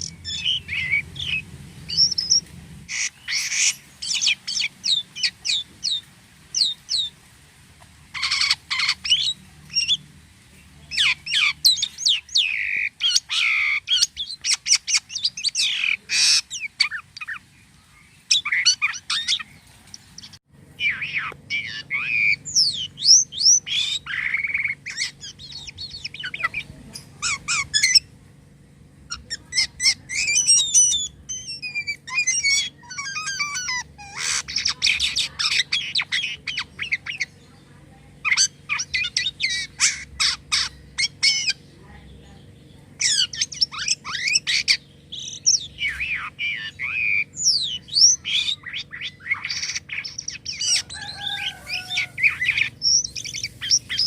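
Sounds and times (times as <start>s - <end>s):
starling singing: 0.0s - 7.2s, 7.8s - 28.3s, 29.0s - 54.0s
faint steady hum: 0.0s - 54.0s.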